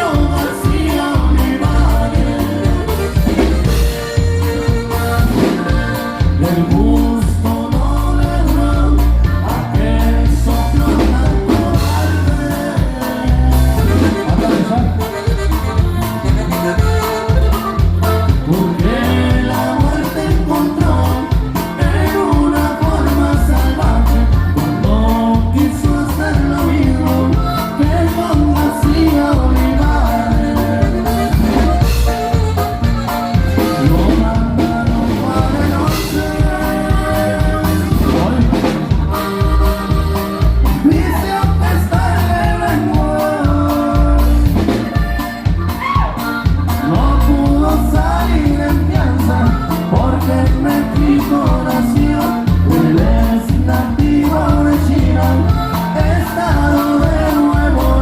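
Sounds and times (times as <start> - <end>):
instrumental band music: 0.0 - 58.0.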